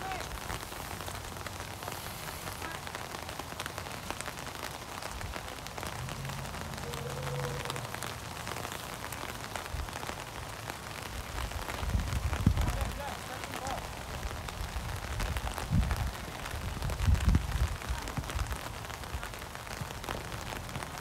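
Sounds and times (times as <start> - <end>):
raindrop ticks: 0.0 - 21.0
steady rain: 0.0 - 21.0.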